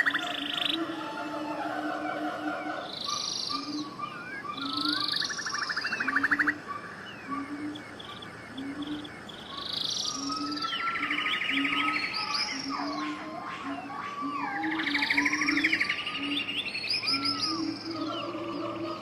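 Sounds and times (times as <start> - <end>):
birds singing and calling: 0.0 - 19.0.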